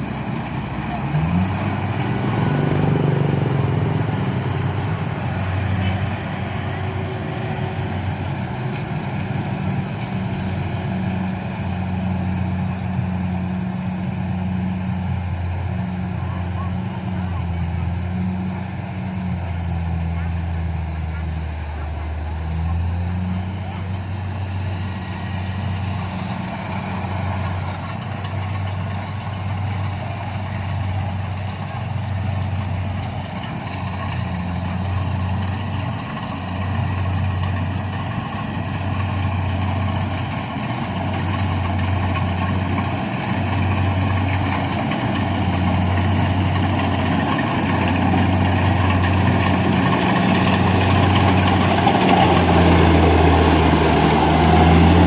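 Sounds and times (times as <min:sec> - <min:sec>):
harvester engine humming: 0:00.0 - 0:55.0.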